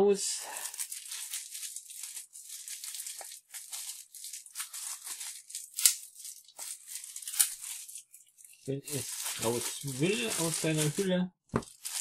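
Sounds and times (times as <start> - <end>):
plastic packaging crinkling: 0.4 - 12.0.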